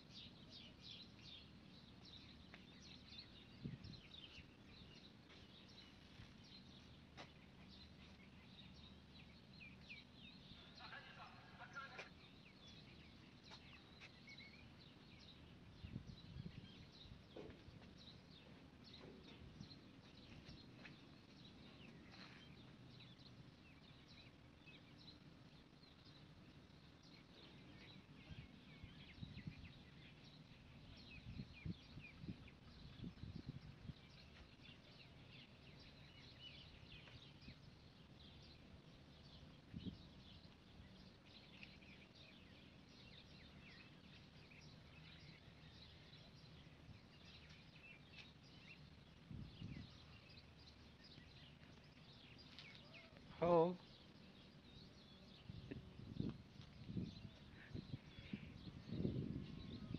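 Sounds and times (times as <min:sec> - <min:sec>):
small bird chirps: 0:00.0 - 0:59.9.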